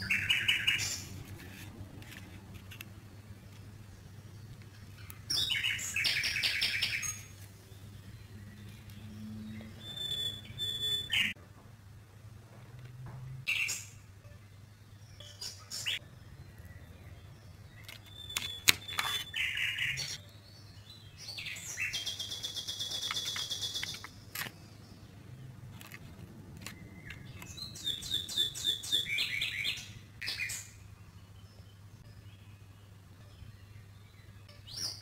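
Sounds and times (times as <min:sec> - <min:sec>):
birds chirping: 0:00.0 - 0:01.6, 0:02.8 - 0:11.4, 0:13.4 - 0:35.0.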